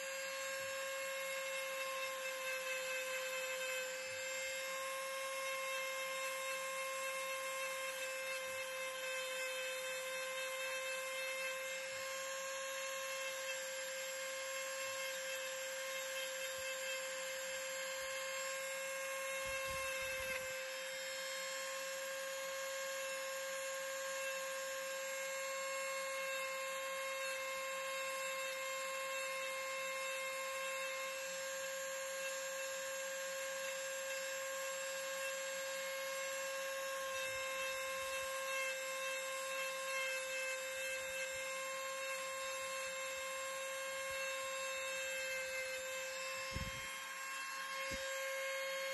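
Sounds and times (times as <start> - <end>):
rotary tool grinding wood: 0.0 - 23.1, 30.4 - 48.9.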